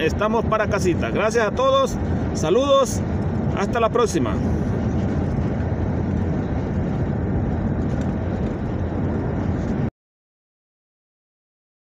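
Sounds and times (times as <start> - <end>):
car cabin road noise: 0.0 - 9.9.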